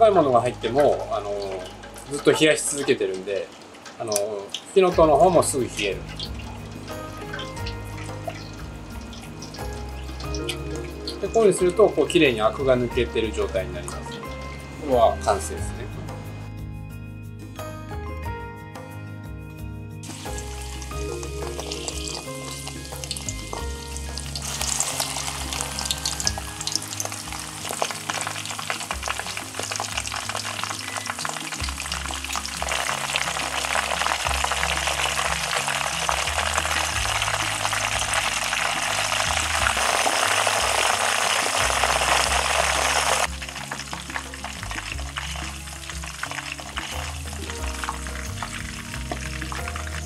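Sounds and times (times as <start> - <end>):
vegetables sizzling in oil: 0.0 - 15.6, 20.0 - 50.0.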